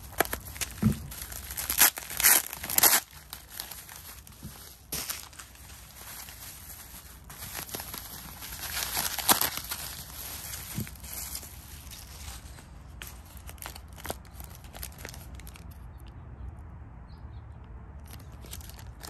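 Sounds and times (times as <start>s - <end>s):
plastic bag rustling: 0.0s - 15.7s, 18.1s - 19.0s
bubble wrap crinkling: 0.0s - 15.9s, 18.0s - 19.0s.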